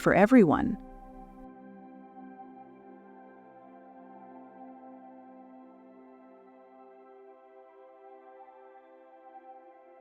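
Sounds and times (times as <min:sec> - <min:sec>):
soft ambient music: 0:00.0 - 0:10.0.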